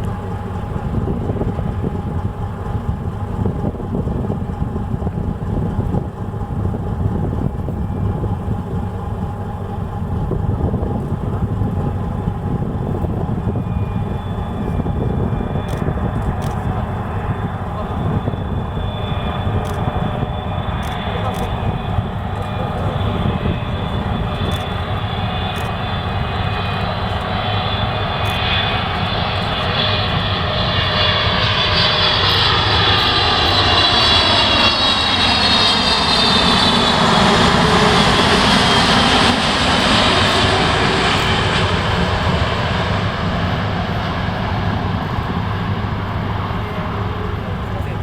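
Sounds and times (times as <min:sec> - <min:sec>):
jet airliner passing overhead: 0:00.0 - 0:48.0.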